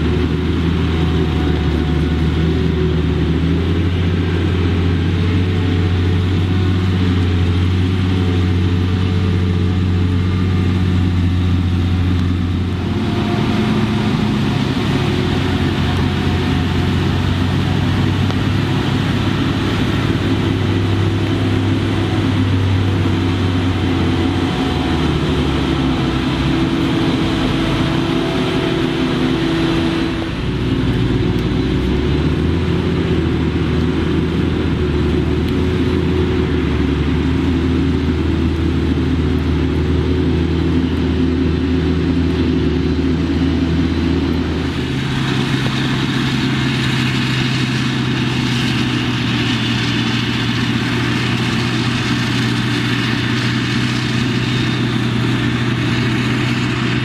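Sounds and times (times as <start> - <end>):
harvester engine under load: 0.0 - 57.0
tractor engine running: 0.0 - 57.0.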